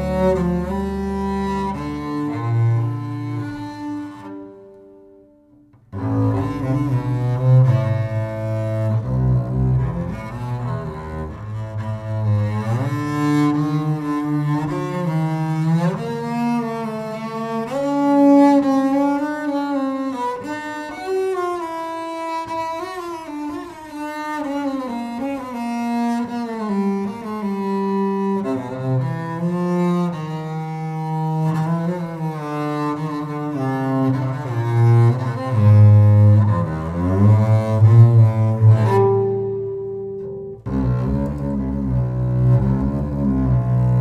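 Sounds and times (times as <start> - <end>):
bowed double bass: 0.0 - 44.0.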